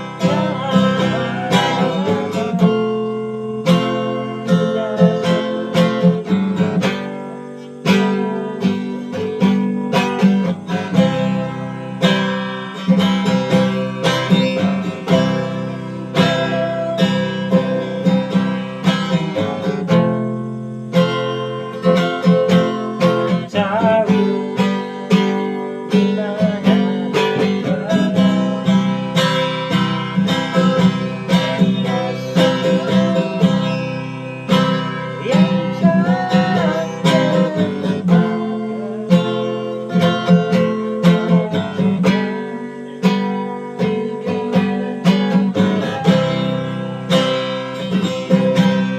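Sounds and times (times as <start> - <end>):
acoustic guitar music: 0.0 - 48.9.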